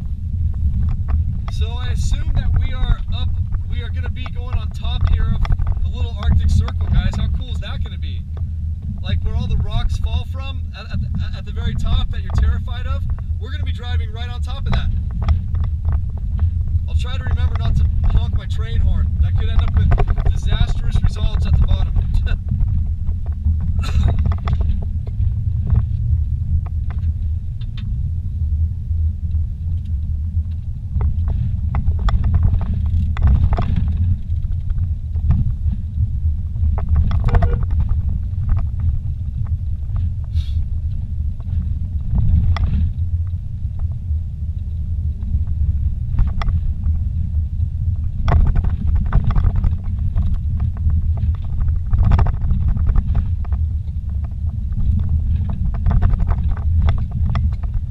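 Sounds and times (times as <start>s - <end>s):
vehicle knocks and rattles: 0.0s - 28.0s, 29.3s - 44.0s, 44.6s - 57.9s
vehicle engine and tyres rumbling: 0.0s - 57.9s.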